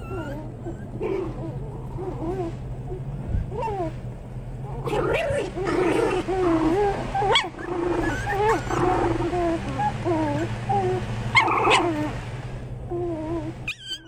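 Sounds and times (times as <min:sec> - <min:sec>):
puppies whining and squealing: 0:00.0 - 0:04.0, 0:04.6 - 0:12.2, 0:12.8 - 0:14.0.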